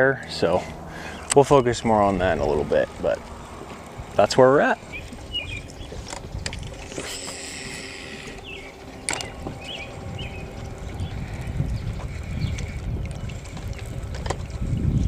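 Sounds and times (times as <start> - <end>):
fishing reel spool whirring: 0.2 - 15.0.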